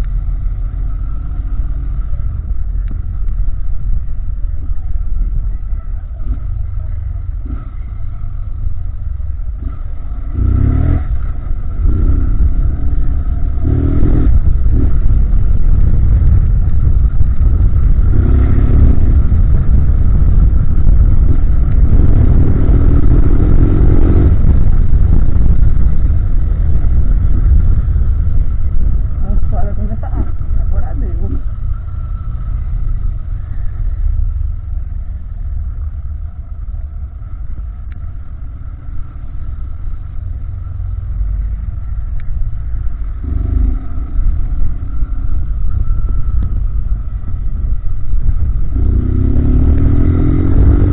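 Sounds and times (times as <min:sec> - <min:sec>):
motorcycle engine revving: 0:00.0 - 0:50.9
wind rumble on microphone: 0:00.0 - 0:50.9.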